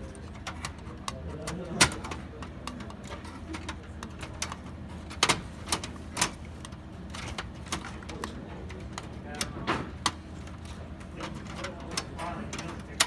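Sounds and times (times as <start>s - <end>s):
clicks and knocks of computer parts: 0.0s - 13.0s
steady low hum: 0.0s - 13.0s.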